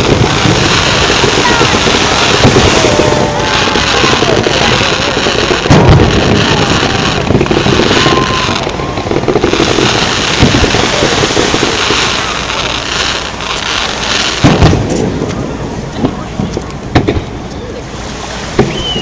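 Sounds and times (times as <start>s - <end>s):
loud firework boom: 0.0s - 12.9s, 13.9s - 17.3s, 18.4s - 19.0s
fireworks crackling: 0.0s - 19.0s.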